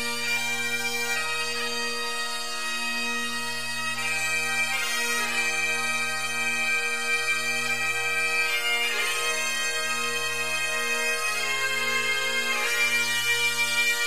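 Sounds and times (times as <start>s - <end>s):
bagpipe chanter melody: 0.0s - 14.0s
bagpipe drones: 0.0s - 14.0s.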